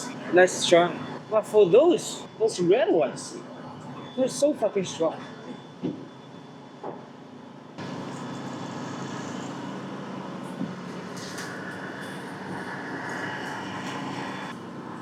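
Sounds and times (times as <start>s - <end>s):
ship engine droning: 0.0s - 15.0s
steady hum: 0.0s - 15.0s.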